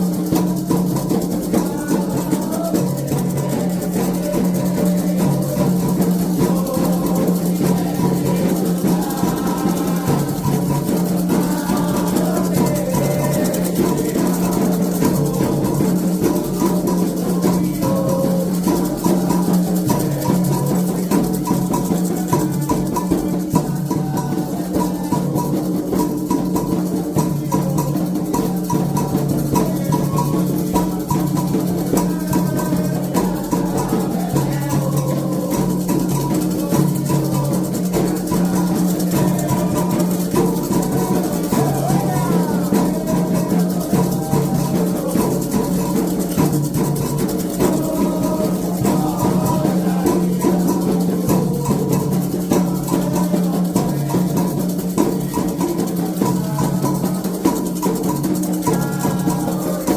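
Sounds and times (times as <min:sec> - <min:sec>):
chanted singing: 0:00.0 - 0:59.9
hand drums and percussion rhythm: 0:00.0 - 0:59.9.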